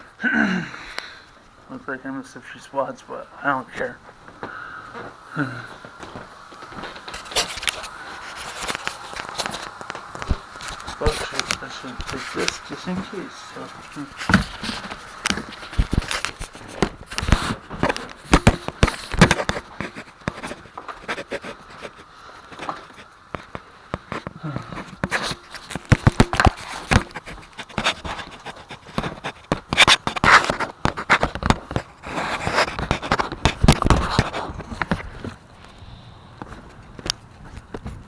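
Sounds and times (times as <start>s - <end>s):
objects knocking and scraping: 4.3s - 35.4s.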